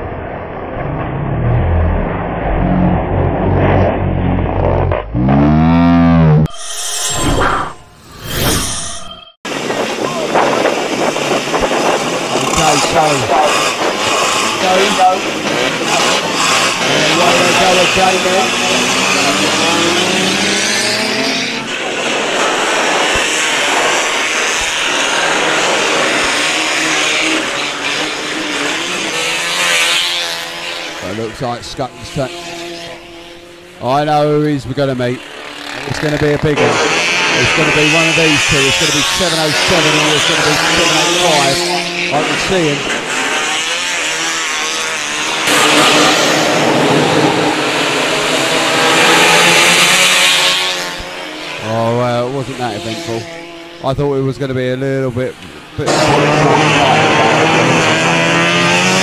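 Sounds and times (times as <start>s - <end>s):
racing car engines revving: 0.0s - 6.5s, 9.5s - 59.0s.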